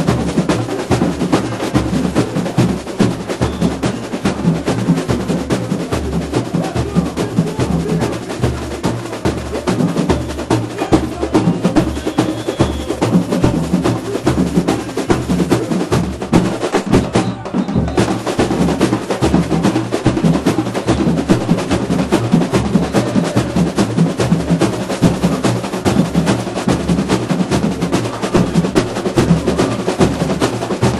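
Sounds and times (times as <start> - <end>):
deep surdo drums: 0.0 - 30.9
snare drum rolls: 0.0 - 30.9.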